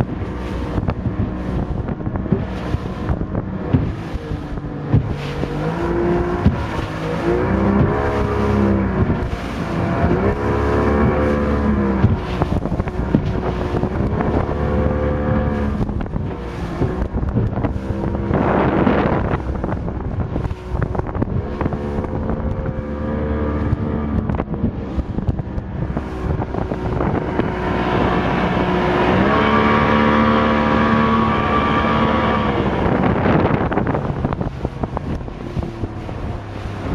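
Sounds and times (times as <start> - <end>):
motorboat engine running: 0.0 - 36.9
wind noise on microphone: 0.0 - 36.9.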